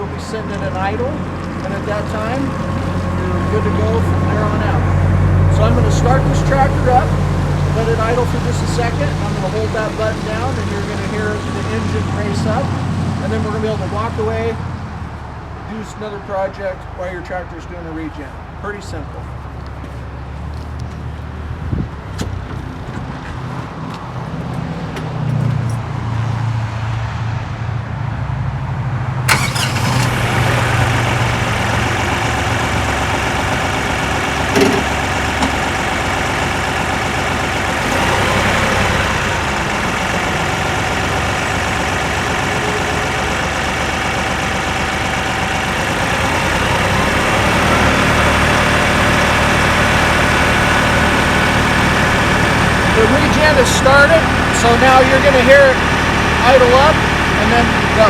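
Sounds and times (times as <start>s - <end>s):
diesel tractor engine idling: 0.0s - 26.0s, 29.3s - 58.0s.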